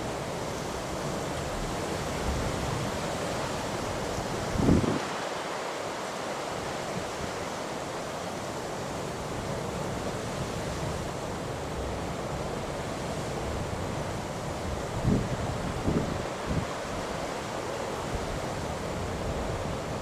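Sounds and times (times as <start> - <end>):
choppy sea: 0.0 - 20.0.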